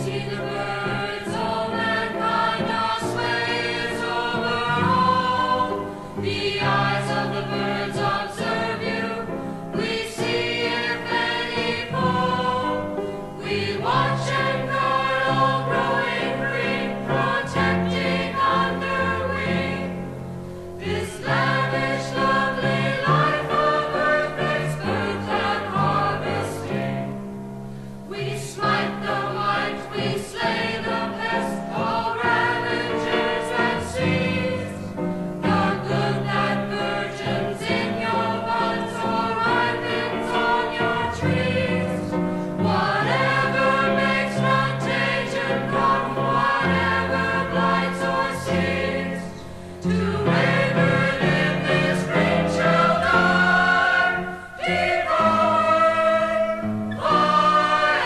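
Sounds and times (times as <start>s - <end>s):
choir singing held chords: 0.0s - 58.0s.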